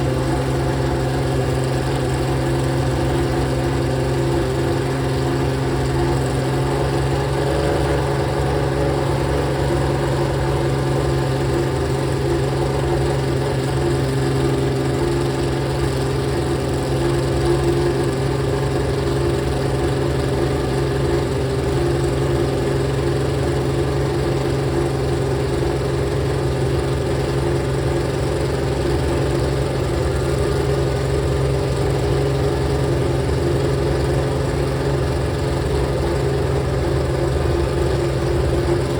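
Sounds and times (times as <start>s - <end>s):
racing car engine idling: 0.0s - 38.9s.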